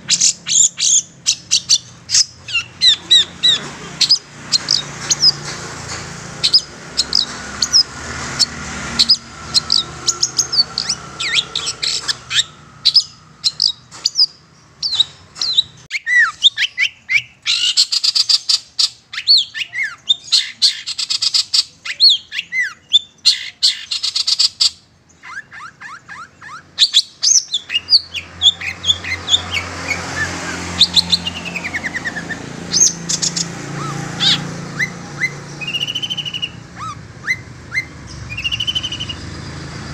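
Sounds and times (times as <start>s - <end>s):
shrike chirping and chattering: 0.0s - 5.5s, 6.3s - 39.6s.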